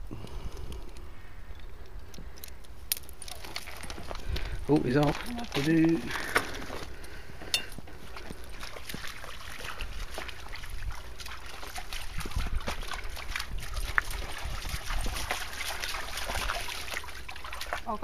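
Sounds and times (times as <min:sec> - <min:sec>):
stream trickling: 0:01.6 - 0:18.0
dog paws splashing: 0:03.1 - 0:18.0.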